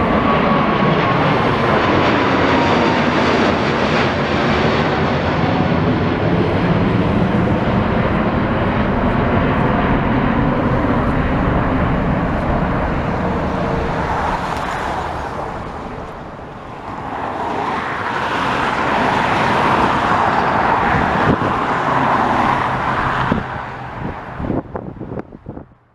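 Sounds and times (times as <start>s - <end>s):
jet engine roar: 0.0s - 25.7s
road traffic noise: 0.0s - 25.9s.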